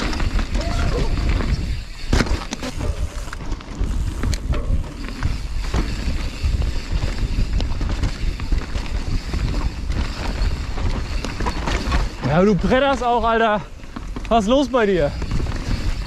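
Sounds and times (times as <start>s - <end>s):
bike clicks and knocks: 0.0s - 16.0s
tyres rolling over dirt: 0.0s - 16.0s
wind buffeting microphone: 0.0s - 16.0s.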